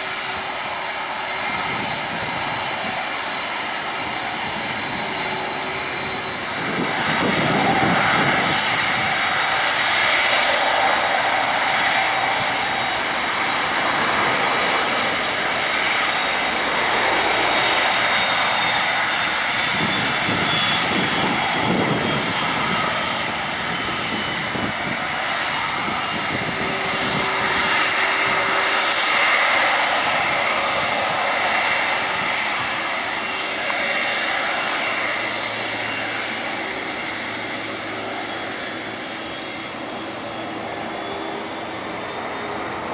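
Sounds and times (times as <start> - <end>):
jet engines whining at taxi power: 0.0 - 42.9.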